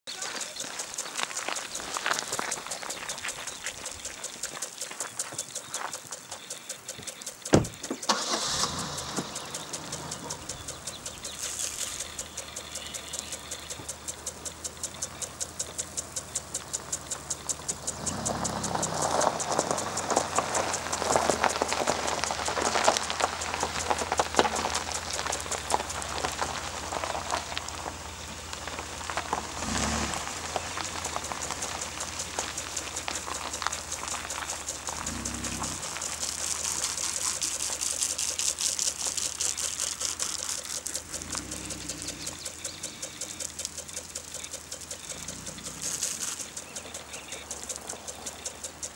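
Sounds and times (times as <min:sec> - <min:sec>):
sprinkler rhythmic ticking: 0:00.0 - 0:48.9
car engine running low: 0:00.1 - 0:48.9
sprinkler spray pattering: 0:00.1 - 0:48.9.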